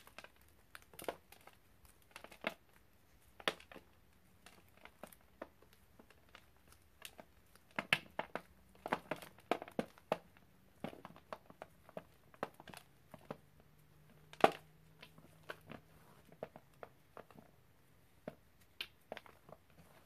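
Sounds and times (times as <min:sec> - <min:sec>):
fingers crumbling chalky powder: 0:00.0 - 0:20.0.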